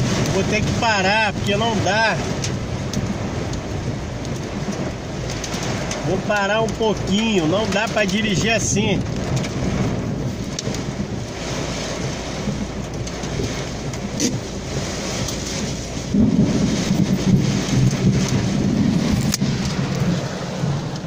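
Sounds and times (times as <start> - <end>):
heavy rain on a car: 0.0 - 21.0
low thunder rumble: 0.0 - 21.0.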